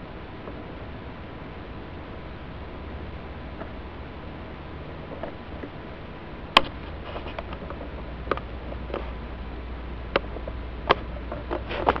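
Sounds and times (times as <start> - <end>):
box fan humming: 0.0 - 12.0.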